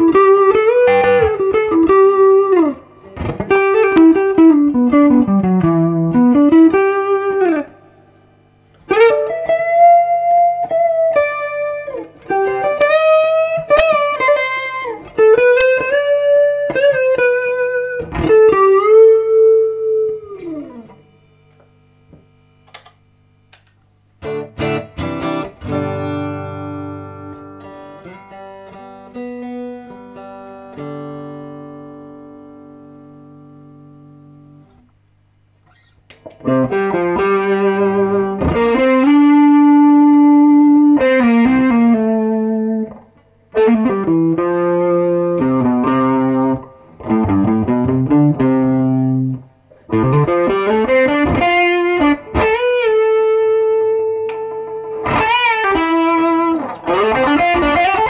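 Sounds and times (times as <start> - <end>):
electric guitar playing: 0.0 - 34.9, 35.6 - 58.0
low amp hum: 0.0 - 58.0.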